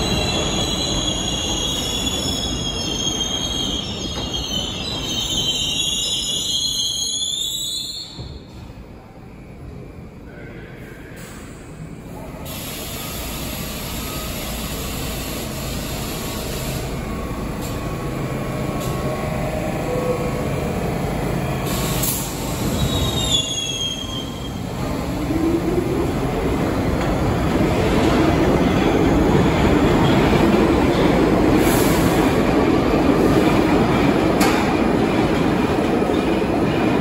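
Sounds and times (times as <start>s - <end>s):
subway train running into station: 0.0s - 37.0s.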